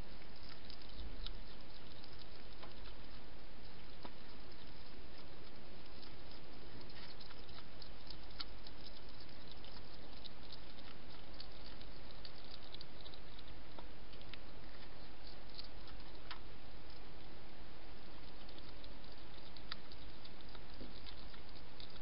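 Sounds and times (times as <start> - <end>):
hedgehog chewing clicks: 0.0 - 22.0.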